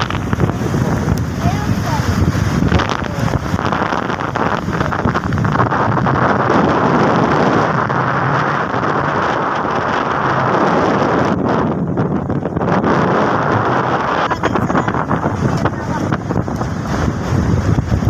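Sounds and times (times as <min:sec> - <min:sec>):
flood water rushing: 0:00.0 - 0:18.0
wind buffeting microphone: 0:00.0 - 0:18.0.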